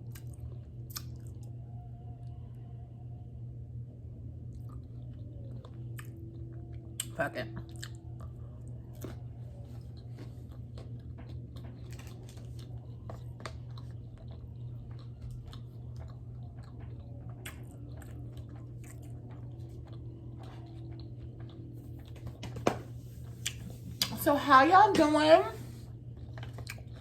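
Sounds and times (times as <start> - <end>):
crunchy chewing: 0.0 - 1.6, 4.5 - 24.1, 25.7 - 27.0
low hum: 0.0 - 27.0.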